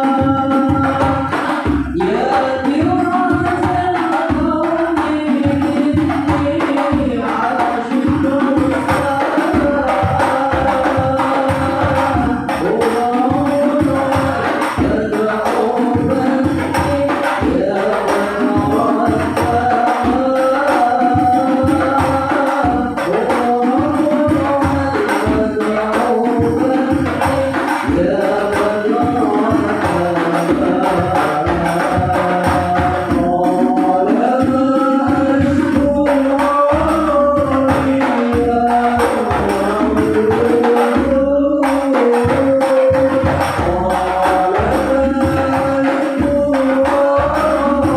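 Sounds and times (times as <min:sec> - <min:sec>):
devotional singing: 0:00.0 - 0:47.9
hand drum and jingle percussion: 0:00.0 - 0:47.9.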